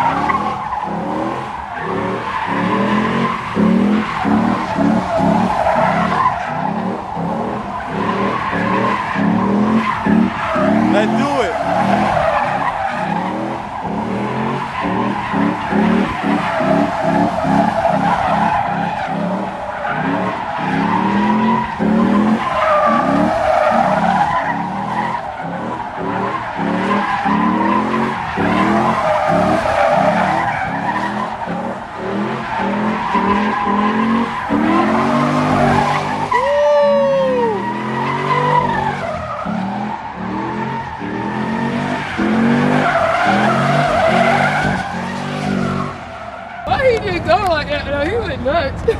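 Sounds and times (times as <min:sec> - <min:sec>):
car engine revving hard: 0:00.0 - 0:48.9
car tyres squealing: 0:00.0 - 0:48.9.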